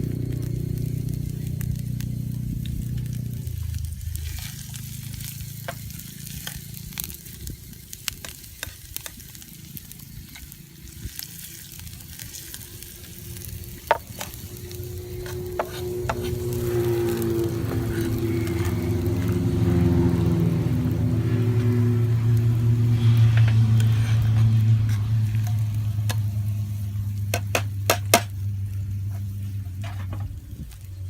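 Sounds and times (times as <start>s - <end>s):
food sizzling in a frying pan: 0.0s - 31.0s
low steady hum: 0.0s - 31.0s
wood fire popping and crackling: 0.0s - 31.0s.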